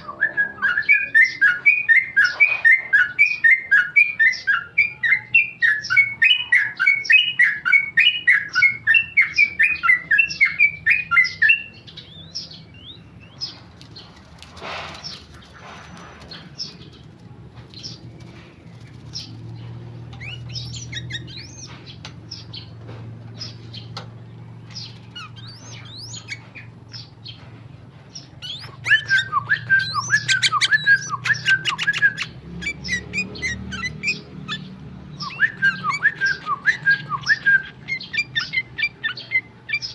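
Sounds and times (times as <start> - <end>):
bird singing rapid notes: 0.0 - 39.9
soft bird calls: 0.0 - 39.9.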